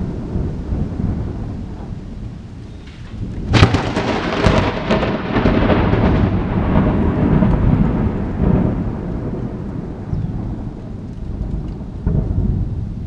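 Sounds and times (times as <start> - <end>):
thunder crack and rumble: 0.0 - 13.0.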